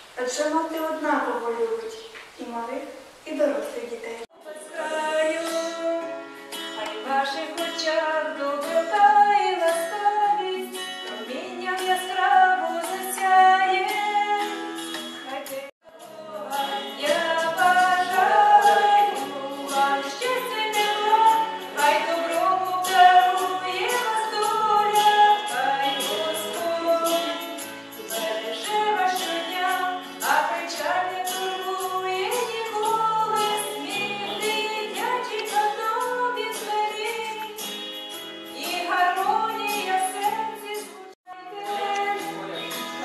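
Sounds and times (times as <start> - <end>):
woman singing: 4.3 - 37.7, 38.5 - 42.4.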